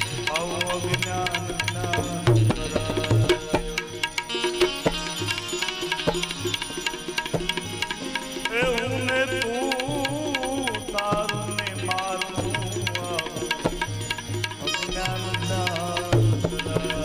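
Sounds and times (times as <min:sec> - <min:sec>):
ornamented instrumental melody: 0:00.0 - 0:17.0
tabla rhythm: 0:00.0 - 0:17.0.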